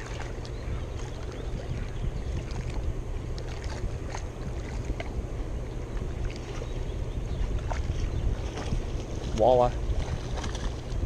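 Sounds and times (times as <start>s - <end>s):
flowing tailwater: 0.0s - 11.0s
wind buffeting microphone: 0.0s - 11.0s.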